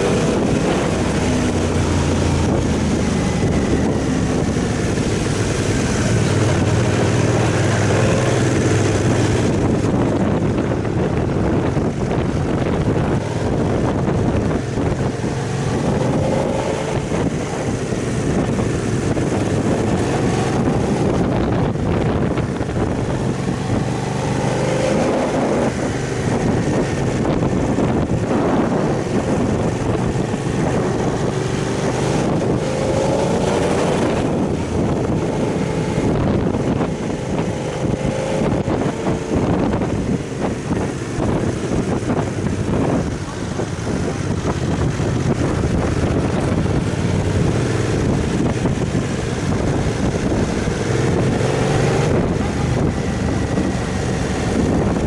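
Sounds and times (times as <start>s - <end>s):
motorcycle engine revving: 0.0s - 55.0s
wind noise on microphone: 0.0s - 55.0s.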